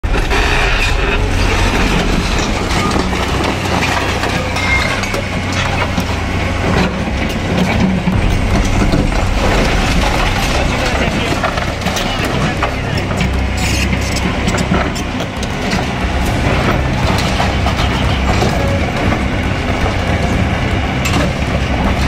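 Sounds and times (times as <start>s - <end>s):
excavator diesel engine running: 0.0s - 22.0s
masonry crunching and clattering: 0.0s - 22.0s.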